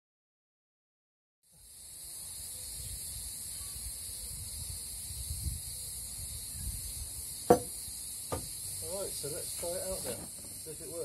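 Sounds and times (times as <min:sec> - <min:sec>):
insect chorus: 0:01.5 - 0:11.0.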